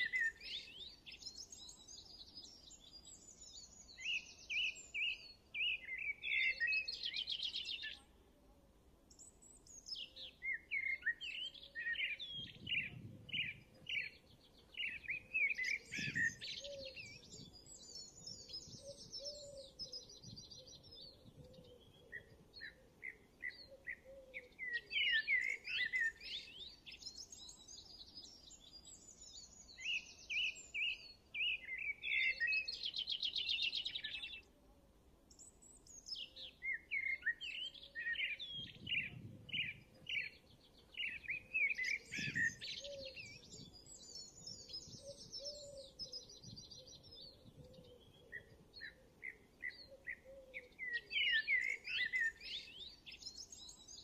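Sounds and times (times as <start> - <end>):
birds chirping and singing: 0.0 - 8.0, 9.1 - 34.5, 35.3 - 54.0.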